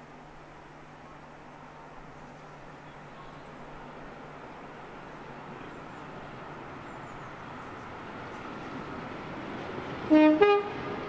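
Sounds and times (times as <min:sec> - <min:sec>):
diesel locomotive engines droning: 0:00.0 - 0:11.0.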